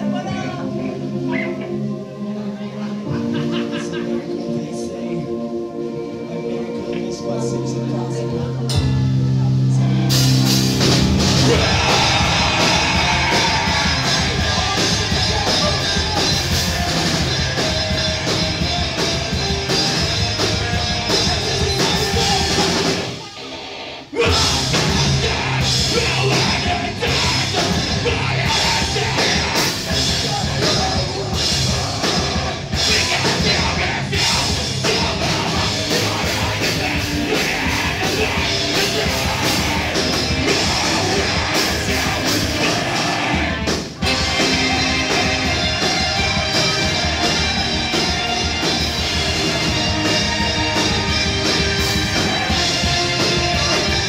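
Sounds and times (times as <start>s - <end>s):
live rock band playing: 8.7s - 54.0s.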